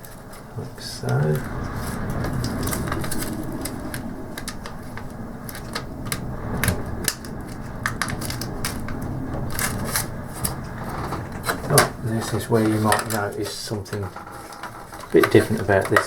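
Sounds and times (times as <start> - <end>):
plastic parts clicking: 0.0 - 16.0.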